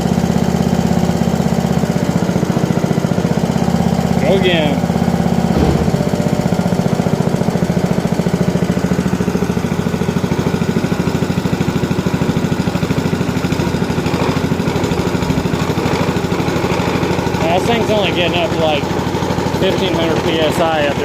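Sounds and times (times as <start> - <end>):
hydraulic pump pulsing: 0.0 - 21.0.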